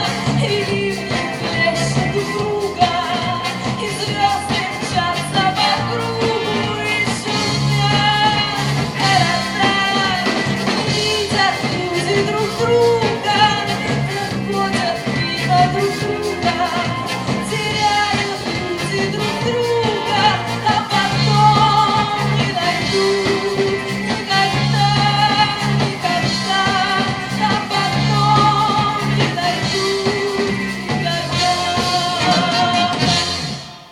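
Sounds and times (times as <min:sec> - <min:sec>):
live band playing pop-rock: 0:00.0 - 0:33.9.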